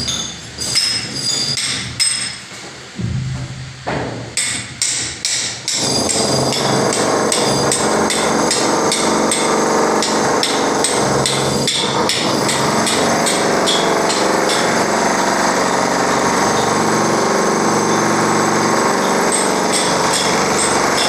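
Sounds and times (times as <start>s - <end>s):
hammer striking masonry: 0.8s - 2.4s, 3.0s - 16.6s, 18.6s - 21.0s.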